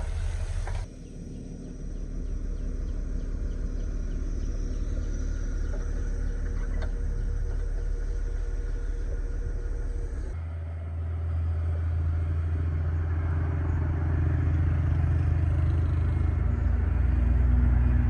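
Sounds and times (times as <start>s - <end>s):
diesel engine droning under load: 0.0s - 18.0s.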